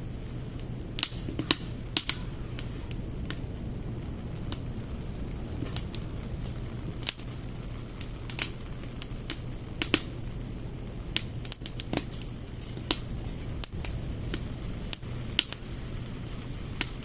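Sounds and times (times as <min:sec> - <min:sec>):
firewood crackling and popping: 0:00.0 - 0:17.0
low fire rumble: 0:00.0 - 0:17.0.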